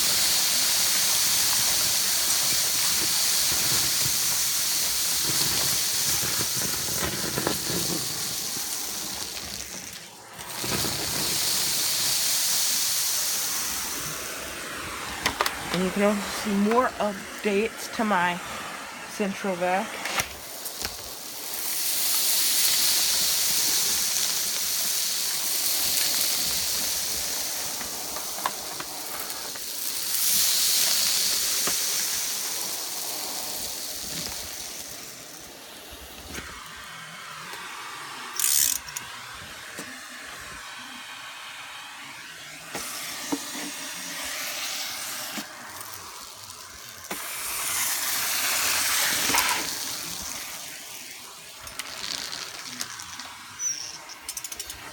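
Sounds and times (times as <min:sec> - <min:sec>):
air hissing through hose: 0:00.0 - 0:54.9
vacuum running: 0:00.0 - 0:54.9.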